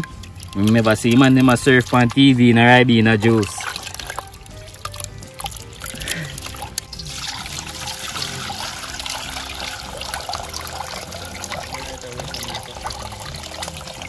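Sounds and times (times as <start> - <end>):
hands squelching crushed berries: 0.0 - 14.0
juice pouring into metal bowl: 0.0 - 14.0.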